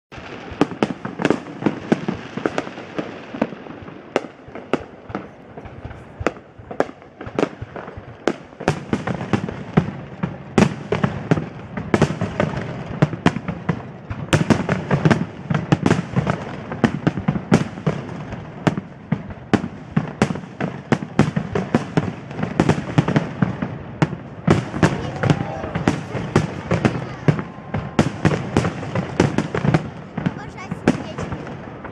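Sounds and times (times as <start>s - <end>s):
fireworks bursting: 0.1s - 31.9s.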